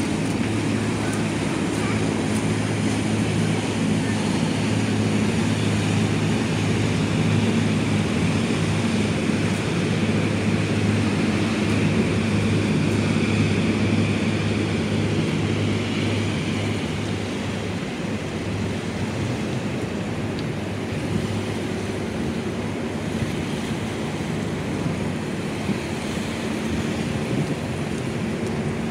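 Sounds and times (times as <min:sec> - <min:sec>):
boat engine droning: 0:00.0 - 0:28.9
water rushing past hull: 0:00.0 - 0:28.9.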